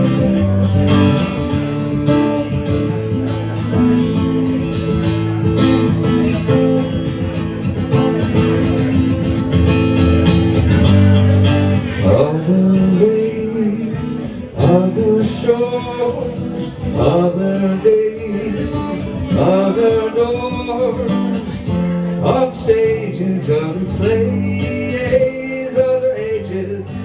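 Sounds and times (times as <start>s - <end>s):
bass line: 0.0s - 27.0s
lead guitar: 0.0s - 27.0s.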